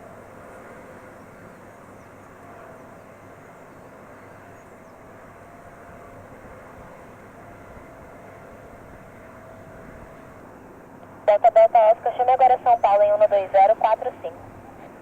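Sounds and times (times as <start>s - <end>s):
jet engine noise with whine: 0.0s - 15.0s.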